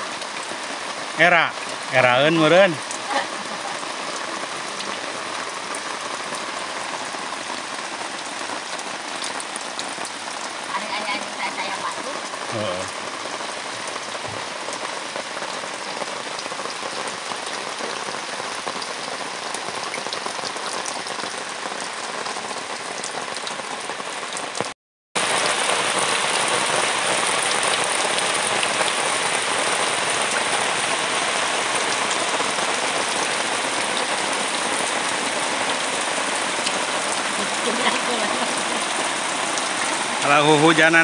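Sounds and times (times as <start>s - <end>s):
rain falling on leaves: 0.0s - 41.0s.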